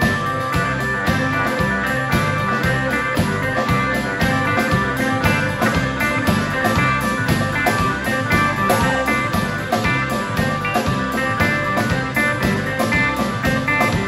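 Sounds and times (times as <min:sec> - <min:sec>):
bass: 0:00.0 - 0:14.0
drum beat: 0:00.0 - 0:14.0
electric guitar lead: 0:00.0 - 0:14.0
pedal steel guitar: 0:00.0 - 0:14.0.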